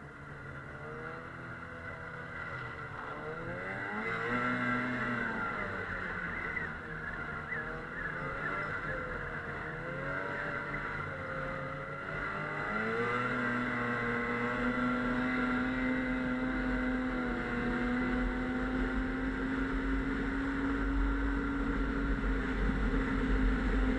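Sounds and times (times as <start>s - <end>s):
snowmobile engine revving: 0.2s - 23.9s.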